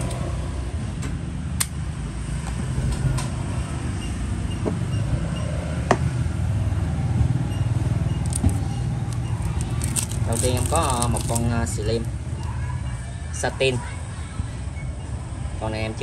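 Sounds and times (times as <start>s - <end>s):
low motor rumble: 0.0s - 13.4s.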